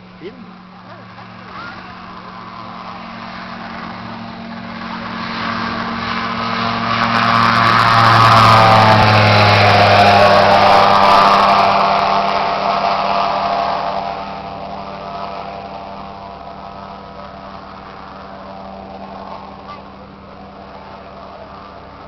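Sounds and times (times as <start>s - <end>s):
propeller aeroplane engine: 0.0s - 22.0s.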